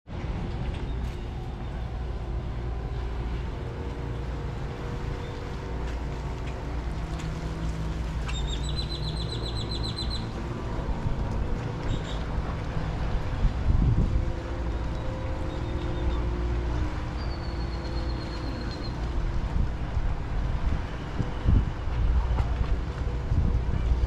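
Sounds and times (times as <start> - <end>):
low harbour rumble: 0.0 - 24.0.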